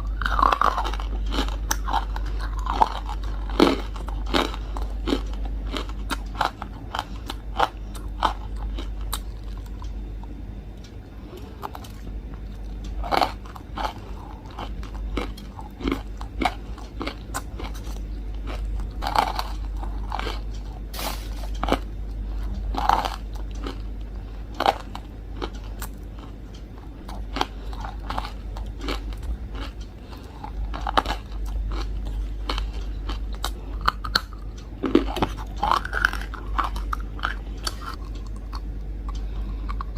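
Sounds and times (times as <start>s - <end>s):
crunchy food chewing: 0.0s - 39.9s
steady low hum: 0.0s - 39.9s.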